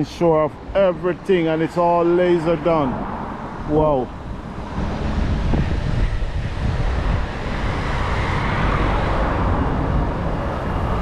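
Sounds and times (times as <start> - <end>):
road traffic: 0.0 - 11.0
wind buffeting microphone: 0.6 - 11.0.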